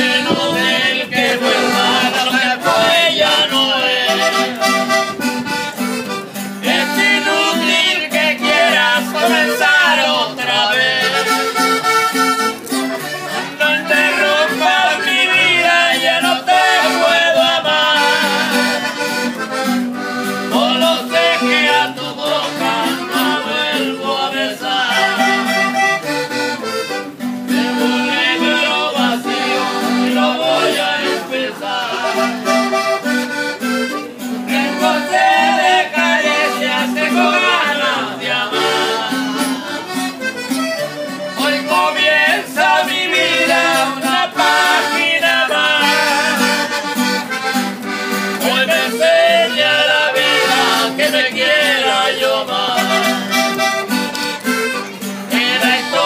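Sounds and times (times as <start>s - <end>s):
accordion melody: 0.0s - 56.0s
strummed guitar: 0.0s - 56.0s.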